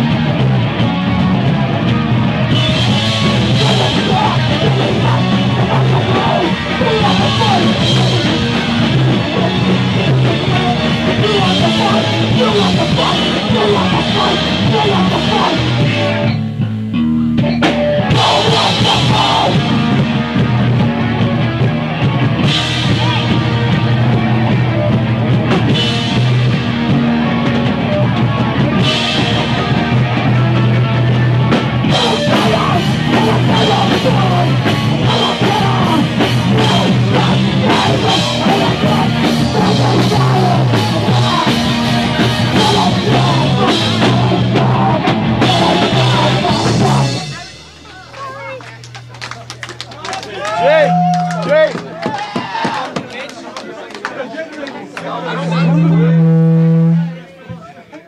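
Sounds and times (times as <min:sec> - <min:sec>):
punk band playing: 0:00.0 - 0:58.0.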